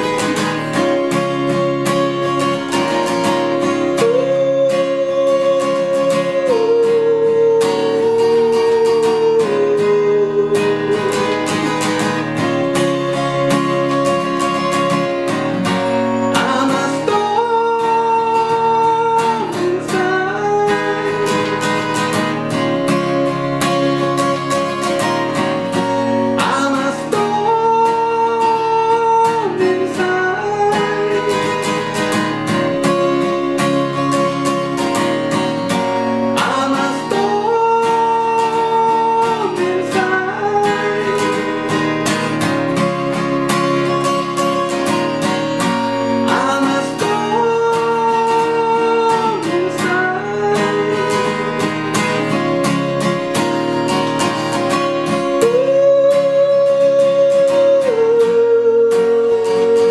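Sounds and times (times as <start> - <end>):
fingerstyle acoustic guitar: 0.0 - 59.9
person singing: 0.0 - 59.9.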